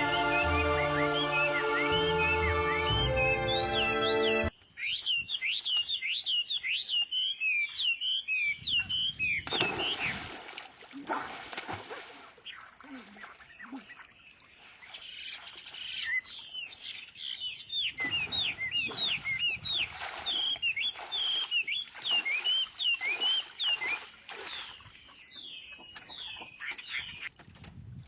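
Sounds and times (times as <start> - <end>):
birds chirping: 0.0 - 10.4, 12.2 - 27.4.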